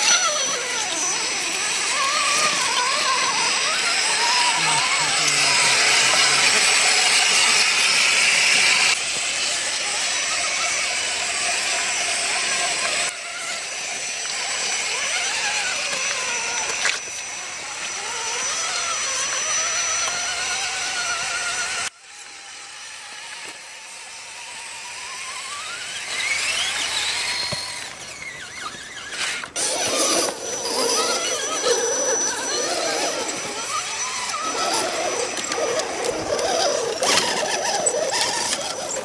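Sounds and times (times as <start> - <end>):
rc truck electric motors whining: 0.0 - 39.0.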